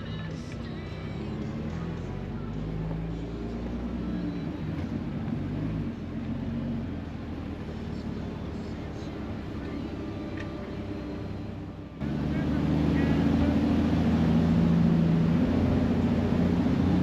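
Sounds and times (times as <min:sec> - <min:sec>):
vehicle engine running at low speed: 0:00.0 - 0:17.0.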